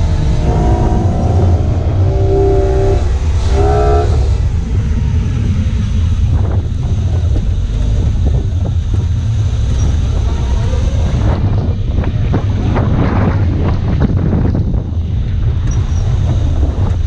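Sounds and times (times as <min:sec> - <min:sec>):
vehicle engine low rumble: 0:00.0 - 0:17.0
wind buffeting microphone: 0:00.0 - 0:17.0.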